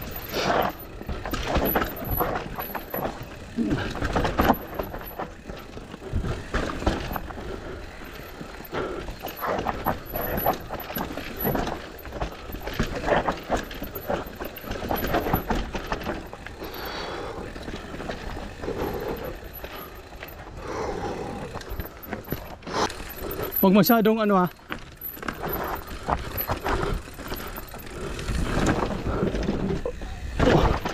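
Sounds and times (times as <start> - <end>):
bike knocking and rattling: 0.0 - 30.9
bike tyres roaring over dirt: 0.0 - 30.9.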